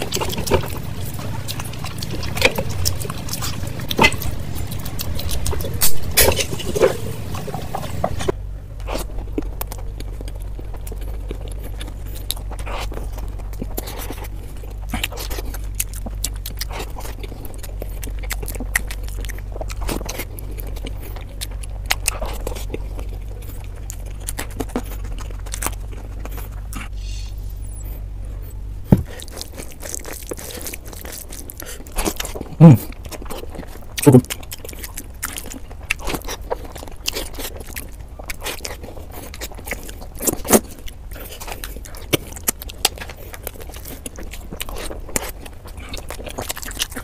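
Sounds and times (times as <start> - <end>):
chewing and mouth clicks: 0.0 - 47.0
steady low hum: 0.0 - 47.0.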